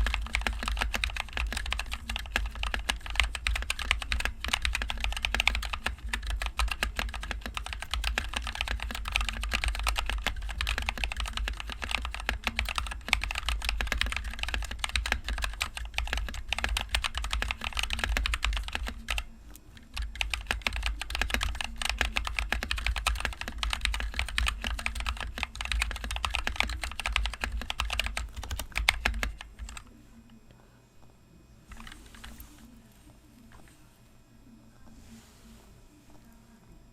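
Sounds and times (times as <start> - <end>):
fast typing on mechanical keyboard: 0.0 - 29.9.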